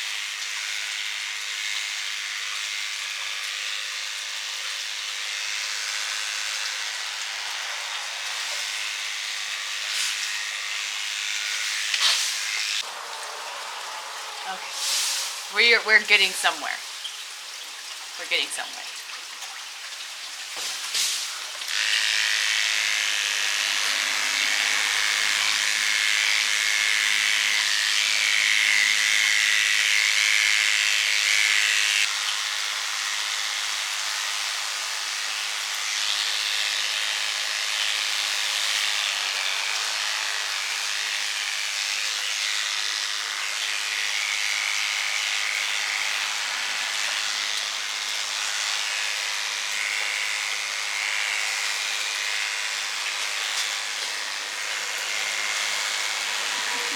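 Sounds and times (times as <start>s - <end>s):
electric hair clippers buzzing: 0.0s - 56.9s.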